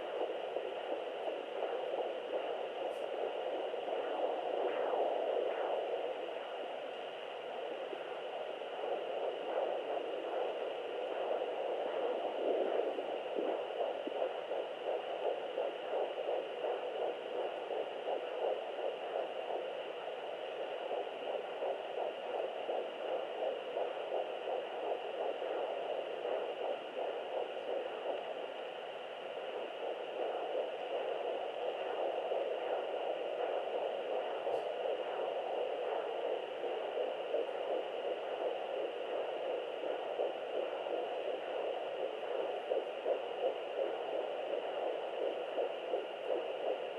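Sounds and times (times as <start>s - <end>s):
fetal heartbeat on doppler: 0.0s - 46.9s.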